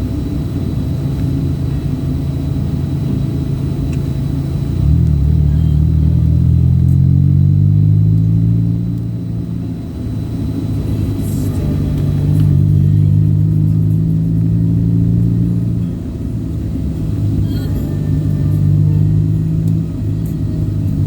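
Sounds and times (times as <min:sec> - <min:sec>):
road rumble: 0:00.0 - 0:21.0
vehicle engine running: 0:00.0 - 0:21.0.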